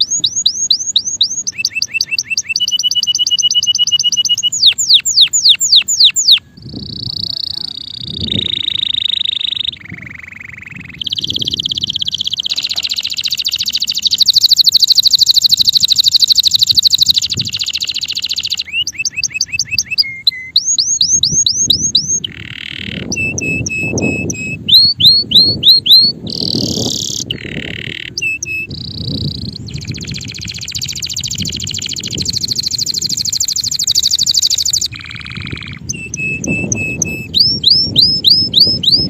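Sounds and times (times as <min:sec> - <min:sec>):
canary singing: 0:00.0 - 0:39.0.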